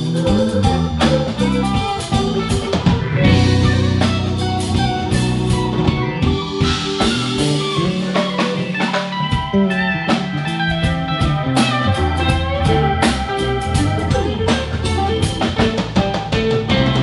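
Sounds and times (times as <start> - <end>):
bass guitar: 0.0 - 17.0
drum kit beat: 0.0 - 17.0
electric guitars: 0.0 - 17.0
keyboard playing: 0.0 - 17.0.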